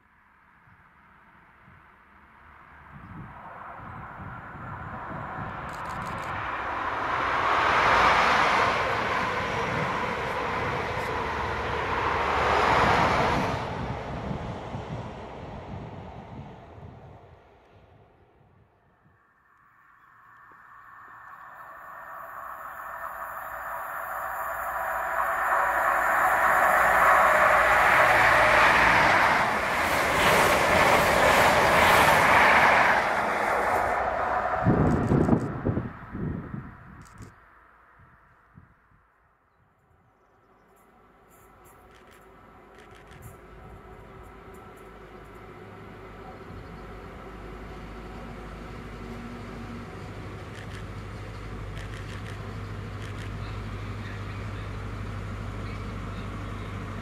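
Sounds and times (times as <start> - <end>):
diesel train passing at speed: 0.0 - 57.0.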